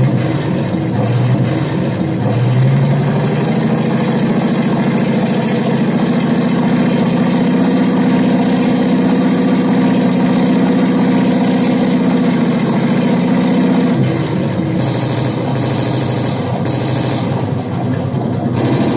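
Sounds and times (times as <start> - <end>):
tank engine running: 0.0 - 18.9.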